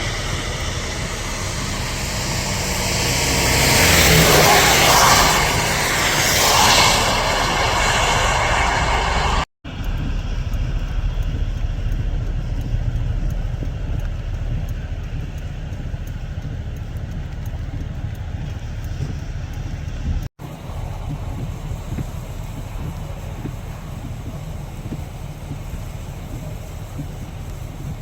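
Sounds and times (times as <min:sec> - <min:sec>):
low traffic rumble: 0:00.0 - 0:28.0
vehicles passing on wet road: 0:00.0 - 0:28.0.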